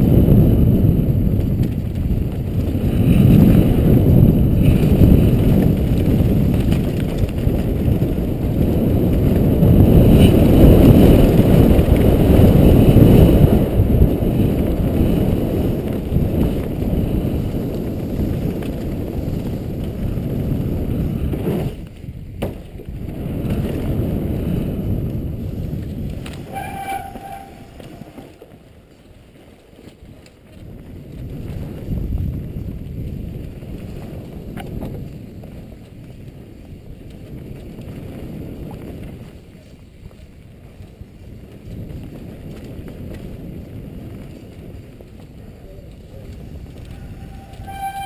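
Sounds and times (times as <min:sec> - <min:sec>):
bike rattling over dirt trail: 0:00.0 - 0:48.0
wind buffeting microphone: 0:00.0 - 0:48.0.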